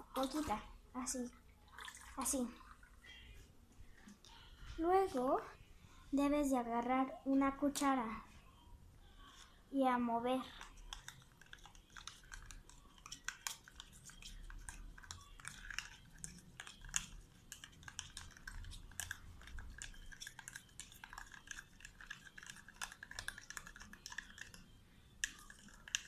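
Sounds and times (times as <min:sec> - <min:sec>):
spoon stirring slime: 0:00.0 - 0:05.6, 0:06.5 - 0:26.0.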